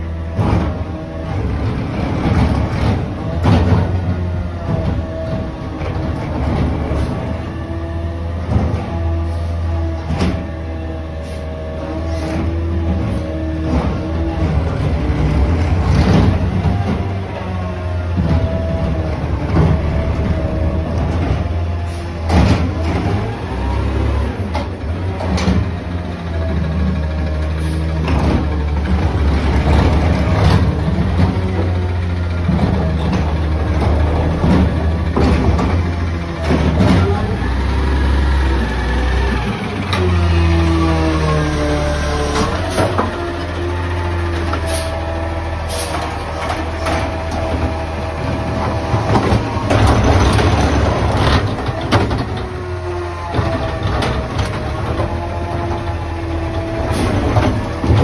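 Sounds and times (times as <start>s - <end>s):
diesel engine hum: 0.0s - 58.0s
engine whine: 0.0s - 58.0s
trash cart clatter: 0.0s - 58.0s.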